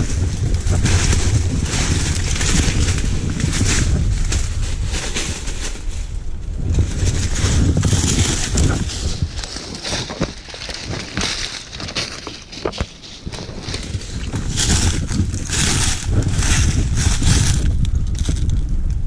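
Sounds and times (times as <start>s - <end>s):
dry leaves crunching underfoot: 0.0s - 18.6s
brush and twigs scraping: 0.0s - 19.0s.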